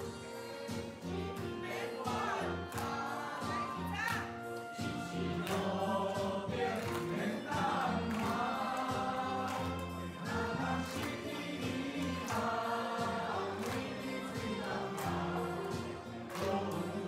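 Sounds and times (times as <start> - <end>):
saxophone ensemble playing: 0.0 - 17.0.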